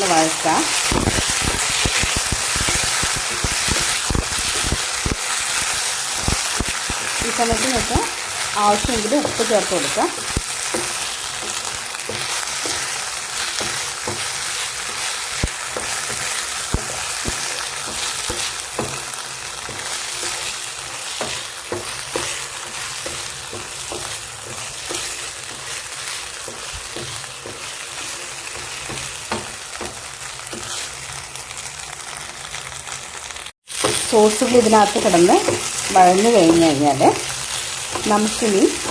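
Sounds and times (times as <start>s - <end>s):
onions sizzling in hot oil: 0.0s - 38.9s.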